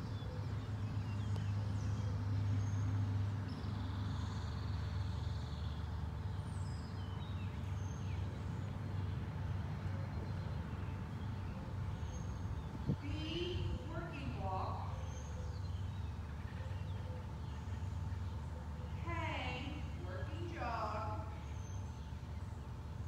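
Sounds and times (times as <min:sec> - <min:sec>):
low mechanical hum: 0:00.0 - 0:23.0
small birds chirping: 0:00.0 - 0:23.0.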